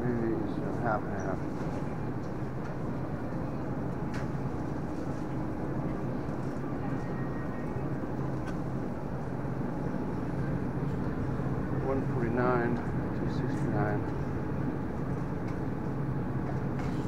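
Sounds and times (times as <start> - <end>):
refrigerator hum and hiss: 0.0 - 17.0.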